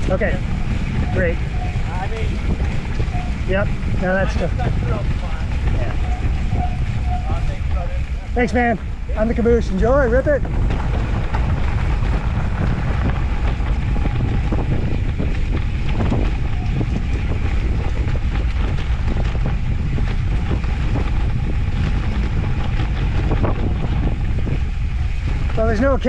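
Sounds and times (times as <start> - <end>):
bike clicks and rattles: 0.0 - 26.0
low rumble: 0.0 - 26.0
wind buffeting microphone: 0.0 - 26.0.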